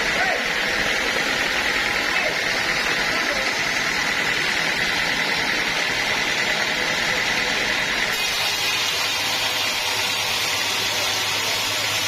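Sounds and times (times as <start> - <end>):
sawmill saw running: 0.0 - 12.0.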